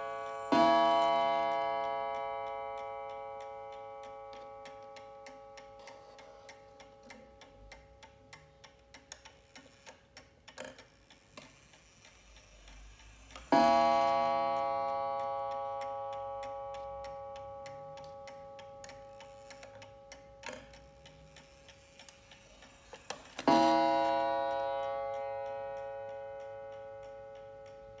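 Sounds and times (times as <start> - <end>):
clock ticking: 0.0 - 28.0.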